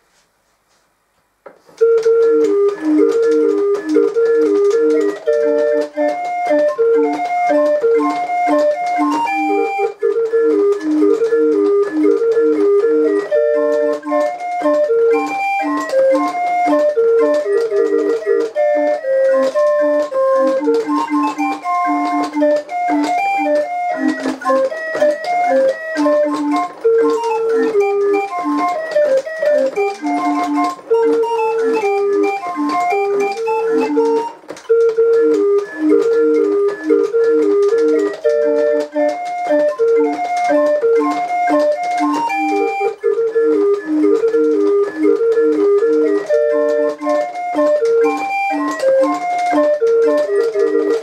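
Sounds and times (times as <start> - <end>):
barrel organ playing a tune: 1.8 - 51.0.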